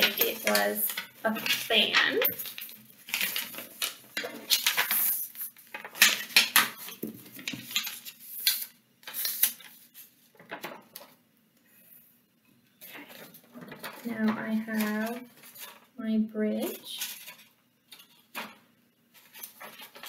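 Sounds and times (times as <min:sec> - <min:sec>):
paper folding and rustling: 0:00.0 - 0:11.2, 0:12.8 - 0:16.0, 0:17.0 - 0:20.0.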